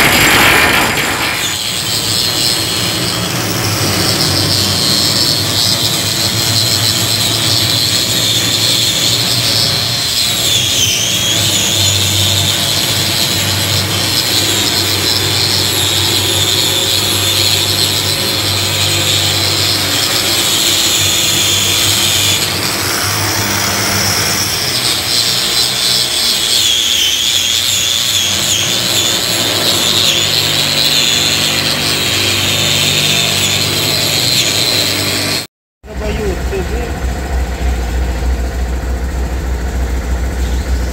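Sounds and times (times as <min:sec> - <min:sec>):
angle grinder wire brush whine: 0:00.0 - 0:40.9.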